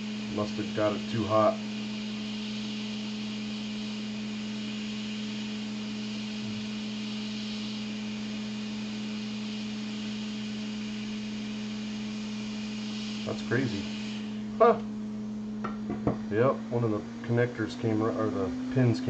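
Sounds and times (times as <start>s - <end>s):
electrical hum: 0.0s - 19.0s
fan-like hiss: 0.0s - 19.0s.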